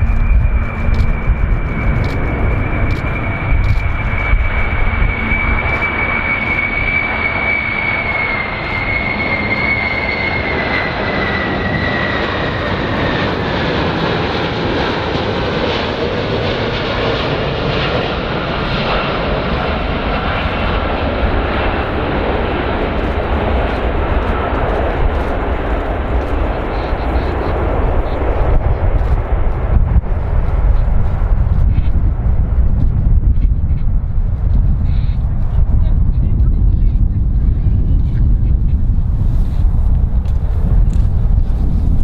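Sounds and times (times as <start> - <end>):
aircraft engines roaring: 0.0 - 42.0.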